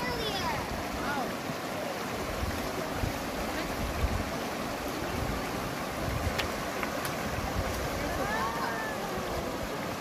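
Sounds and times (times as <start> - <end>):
water rushing: 0.0 - 10.0
wind rumbling on microphone: 0.4 - 10.0.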